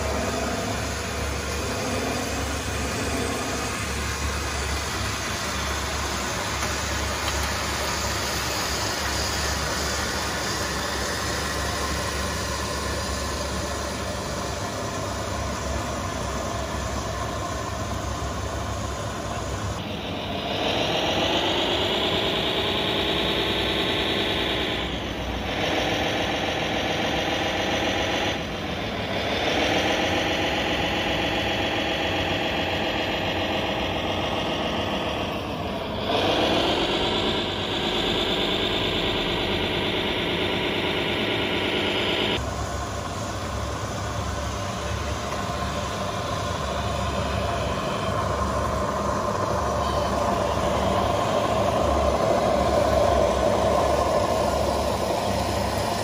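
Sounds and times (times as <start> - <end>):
deeper engine sound: 0.0 - 56.0
model truck engine running: 0.0 - 56.0.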